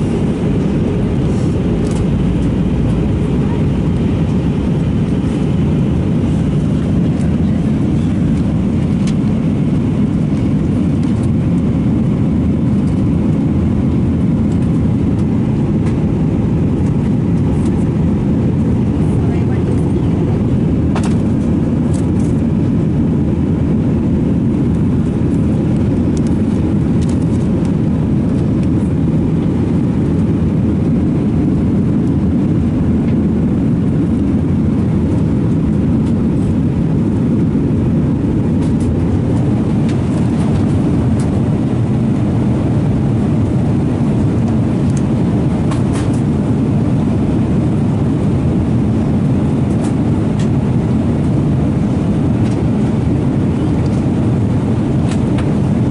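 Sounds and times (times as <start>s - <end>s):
airflow past fuselage: 0.0s - 55.8s
low rumble of jet engines: 0.0s - 55.9s.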